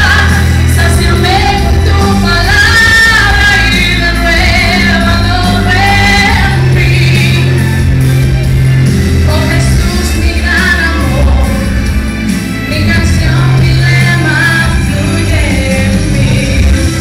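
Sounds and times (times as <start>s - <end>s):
church worship music: 0.0s - 17.0s.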